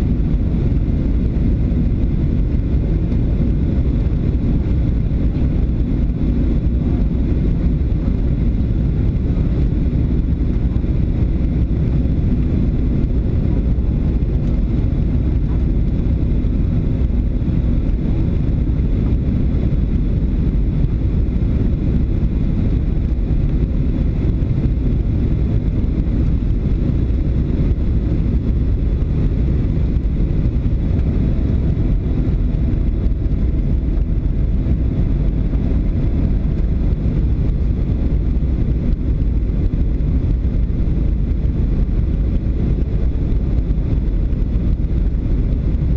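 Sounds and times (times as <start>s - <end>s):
airliner cabin jet engine rumble: 0.0s - 45.9s.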